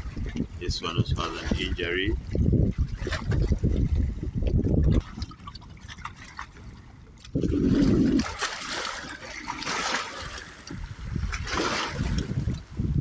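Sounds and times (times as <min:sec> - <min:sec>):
low water rush: 0:00.0 - 0:13.0
shallow water splashing: 0:00.0 - 0:13.0.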